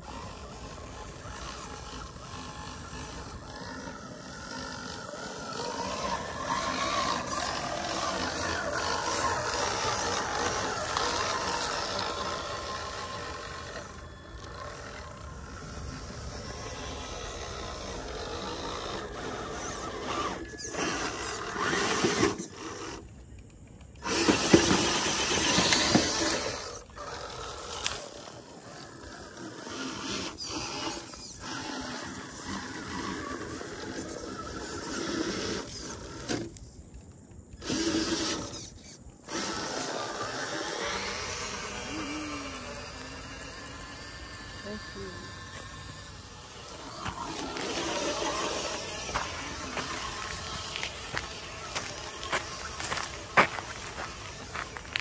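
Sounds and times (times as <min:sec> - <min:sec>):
truck motor whining: 0:00.0 - 0:55.0.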